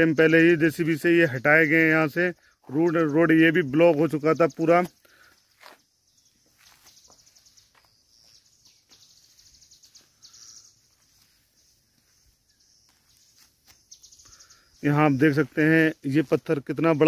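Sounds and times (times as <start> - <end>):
faint high-pitched chirping trills: 0.0 - 17.0.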